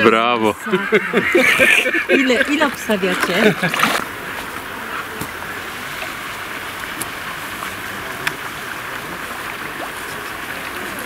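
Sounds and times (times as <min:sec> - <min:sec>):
water sloshing and splashing: 0:00.8 - 0:11.0.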